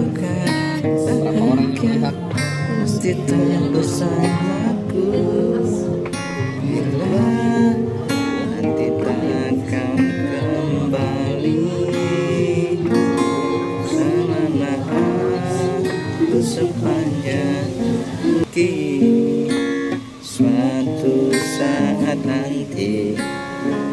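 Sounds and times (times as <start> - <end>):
acoustic guitar strumming: 0.0 - 23.9
man singing: 0.0 - 23.9.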